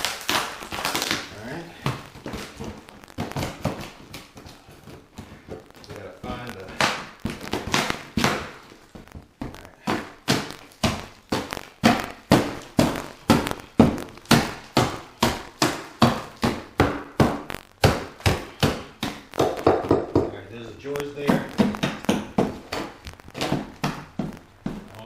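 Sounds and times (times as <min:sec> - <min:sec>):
heavy blows on wooden subfloor: 0:01.7 - 0:20.4, 0:21.1 - 0:25.0.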